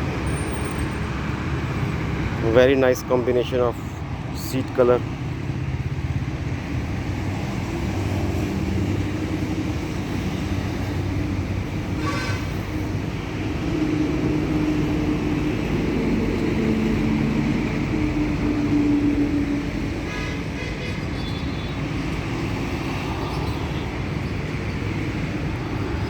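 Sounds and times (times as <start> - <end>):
rumble of motor vehicles: 0.0 - 26.0.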